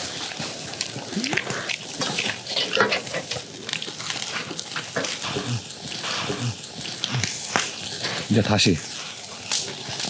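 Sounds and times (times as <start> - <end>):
meat sizzling on charcoal grill: 0.0 - 10.0.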